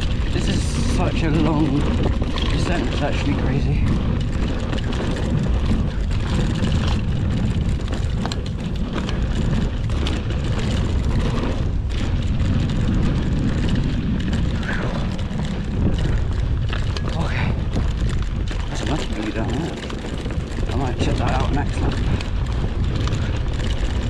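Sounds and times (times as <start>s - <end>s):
bike knocks and rattles: 0.0s - 24.0s
bike tyre noise on dirt: 0.0s - 24.0s
wind on microphone: 0.0s - 24.0s.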